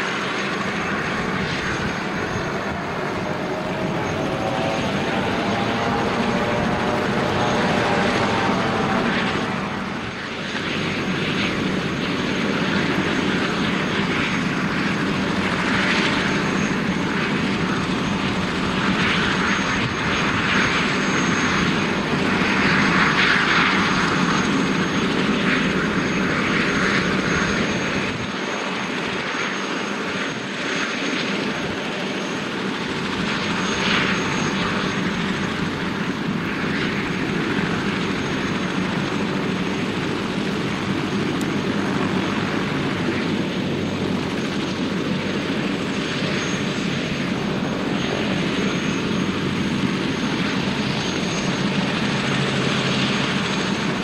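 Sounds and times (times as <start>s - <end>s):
helicopter rotor and engine: 0.0s - 54.0s
high turbine whine: 0.0s - 54.0s.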